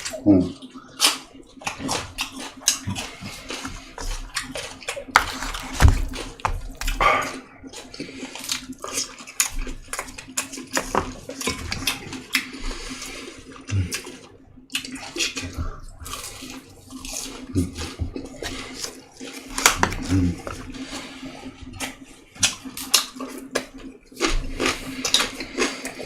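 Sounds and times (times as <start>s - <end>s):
chewing and mouth smacking: 0.0s - 26.0s
faint steady hum: 0.0s - 26.0s.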